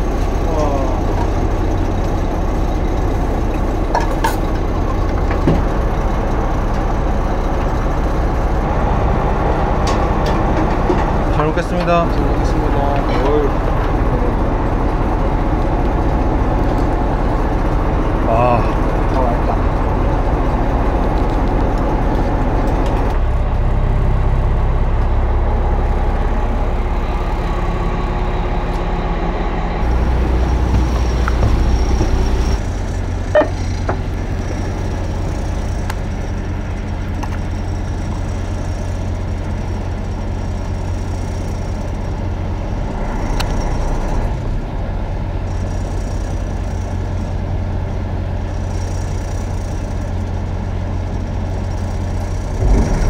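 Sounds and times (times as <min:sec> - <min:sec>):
boat engine drone: 0:00.0 - 0:53.0.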